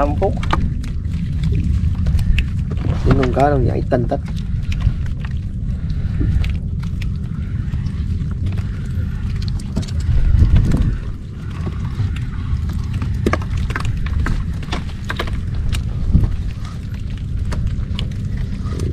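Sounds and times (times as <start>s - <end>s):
fish flapping against container: 0.0s - 18.9s
low rumble: 0.0s - 18.9s.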